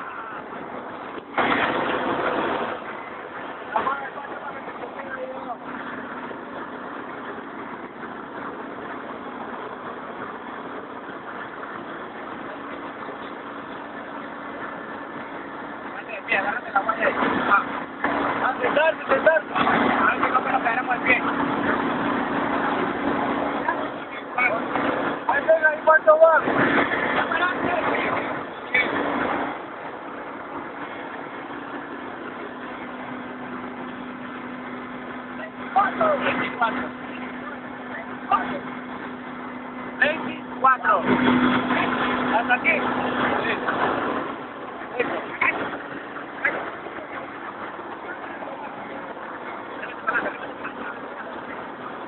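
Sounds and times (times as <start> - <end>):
helicopter engines and rotor drone: 0.0 - 52.0.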